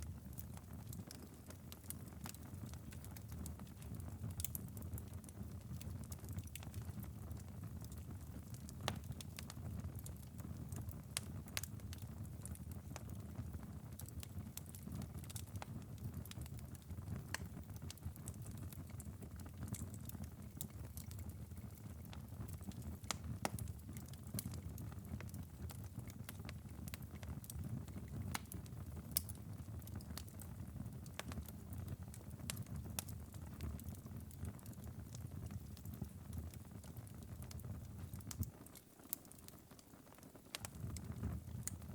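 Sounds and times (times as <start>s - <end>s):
fire embers crackling: 0.0s - 41.9s.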